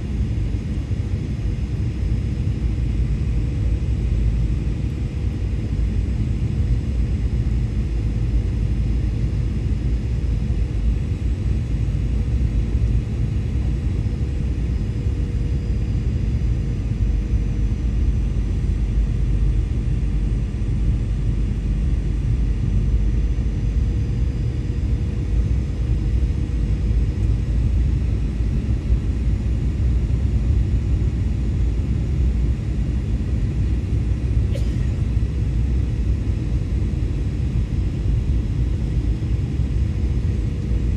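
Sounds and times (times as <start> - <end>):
airplane cabin engine rumble: 0.0 - 40.9
faint steady hum: 0.0 - 40.9.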